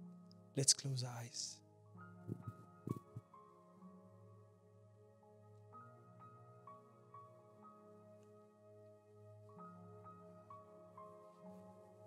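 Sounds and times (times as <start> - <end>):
soft keyboard music: 0.0 - 12.0.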